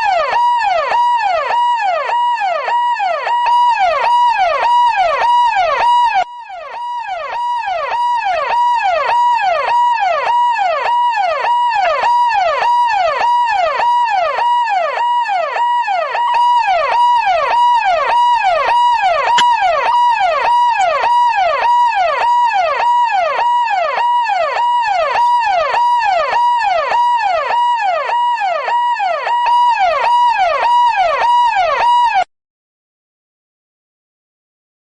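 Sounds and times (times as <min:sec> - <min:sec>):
police siren yelp: 0:00.0 - 0:32.3.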